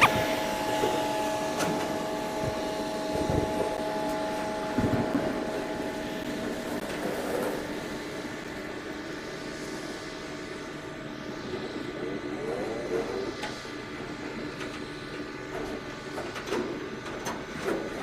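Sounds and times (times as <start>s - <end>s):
boat diesel engine drone: 0.0s - 18.0s.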